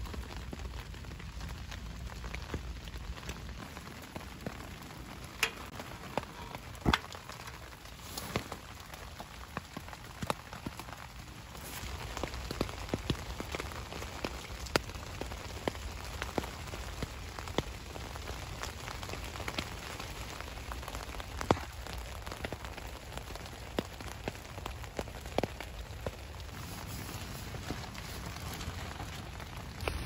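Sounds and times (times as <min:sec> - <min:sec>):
rain pattering on tent fabric: 0:00.0 - 0:30.0.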